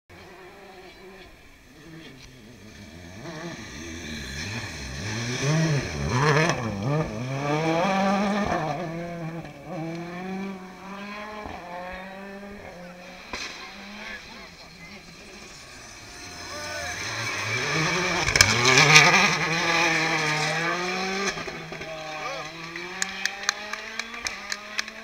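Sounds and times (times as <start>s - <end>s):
rally car engine revving: 0.1s - 25.0s.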